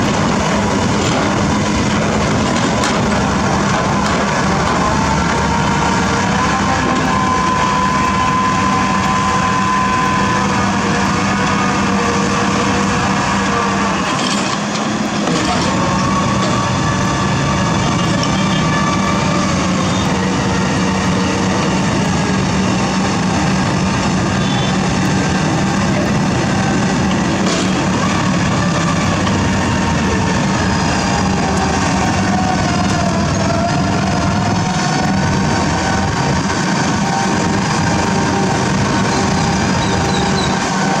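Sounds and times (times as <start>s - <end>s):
diesel machinery engine hum: 0.0s - 41.0s
high machine whine: 0.0s - 41.0s.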